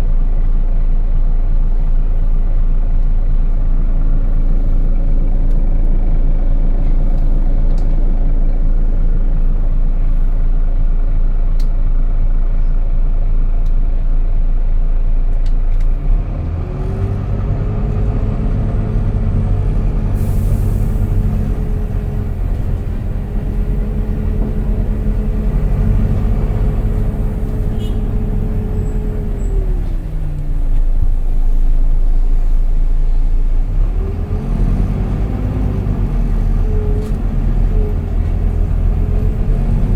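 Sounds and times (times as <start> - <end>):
bus engine drone: 0.0 - 39.9
rising bus whine: 0.0 - 39.9.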